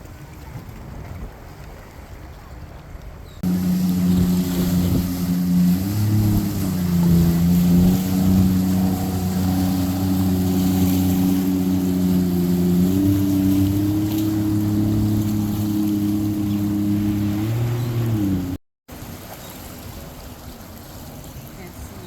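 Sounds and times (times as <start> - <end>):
water wash: 0.0 - 22.0
motorboat engines droning: 3.4 - 22.0.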